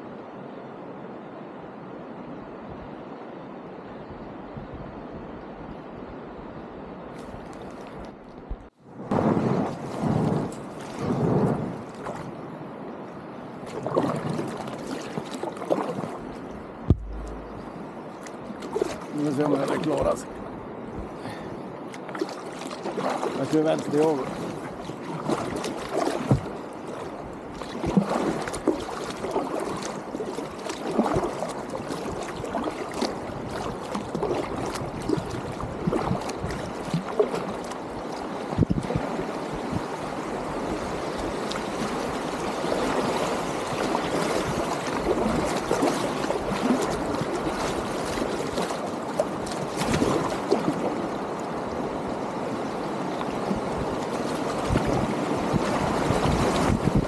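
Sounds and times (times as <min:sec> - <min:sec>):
river water rushing and splashing: 0:08.8 - 0:57.0.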